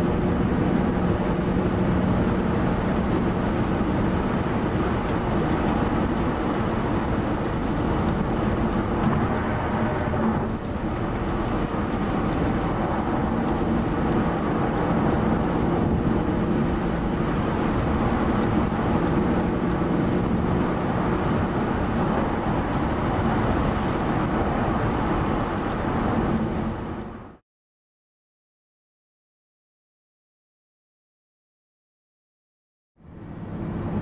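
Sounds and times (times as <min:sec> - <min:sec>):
car engine hum: 0:00.0 - 0:27.4, 0:33.0 - 0:34.0
tyre and wind noise: 0:00.0 - 0:27.4.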